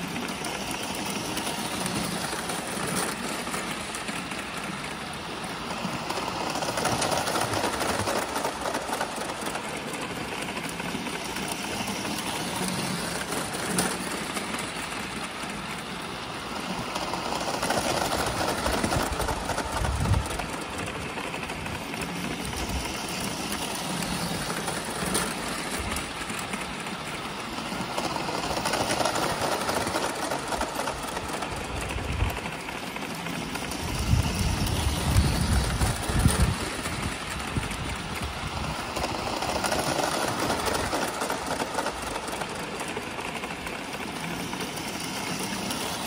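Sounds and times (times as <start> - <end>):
electric toy train running on track: 0.0 - 46.0.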